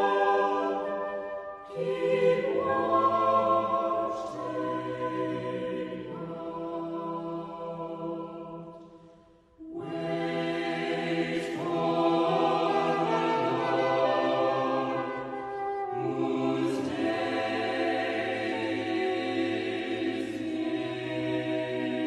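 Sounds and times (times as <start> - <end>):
choral chant-like music: 0.0 - 22.0.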